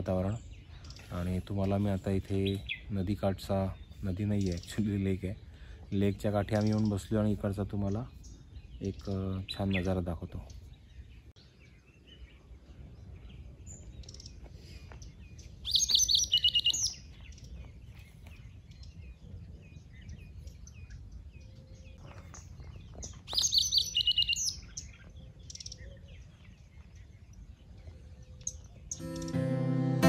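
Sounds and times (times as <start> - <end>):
faint bird chirps: 3.6 - 29.5.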